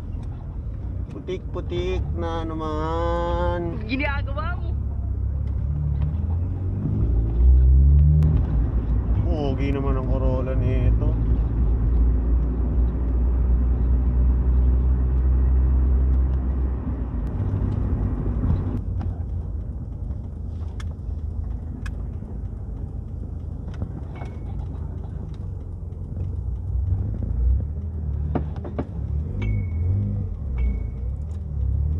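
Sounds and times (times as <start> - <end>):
car engine droning: 0.0 - 31.9.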